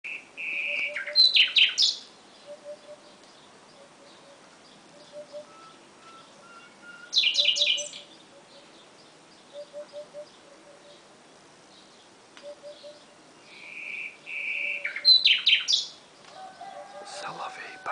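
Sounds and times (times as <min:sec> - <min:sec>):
low bird calls: 0:00.1 - 0:11.1, 0:11.8 - 0:17.9
nightingale singing: 0:00.1 - 0:11.1, 0:11.7 - 0:17.9.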